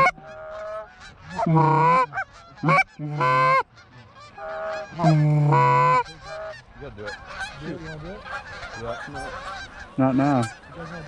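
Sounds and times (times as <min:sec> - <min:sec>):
goose honking: 0:00.0 - 0:11.0.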